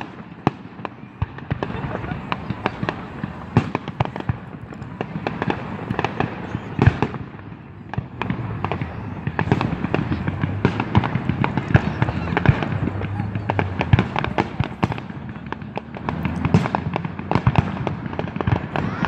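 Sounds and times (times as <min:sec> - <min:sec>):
constant rumble: 0:00.0 - 0:19.0
fireworks bangs and crackles: 0:00.0 - 0:19.0.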